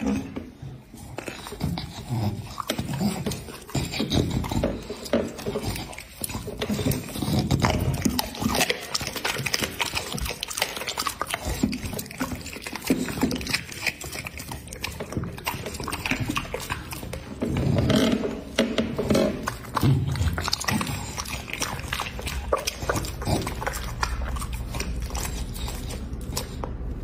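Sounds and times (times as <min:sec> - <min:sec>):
dog chewing wetly: 0:00.0 - 0:27.0.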